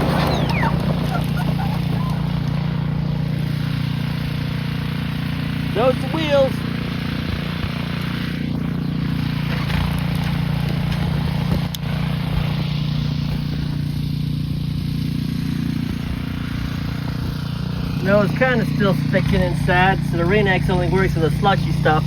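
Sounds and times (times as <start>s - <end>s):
snow blower motor humming: 0.0s - 22.0s.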